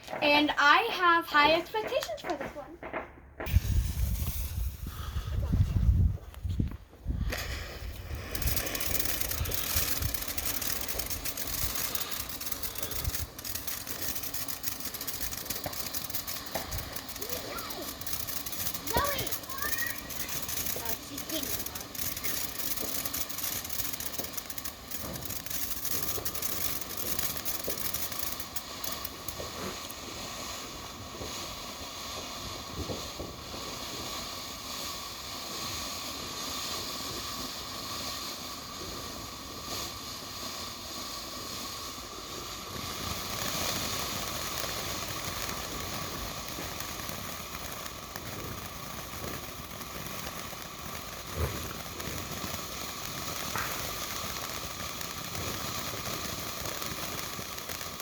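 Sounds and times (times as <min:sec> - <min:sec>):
fountain firework hissing: 0:00.0 - 0:58.0.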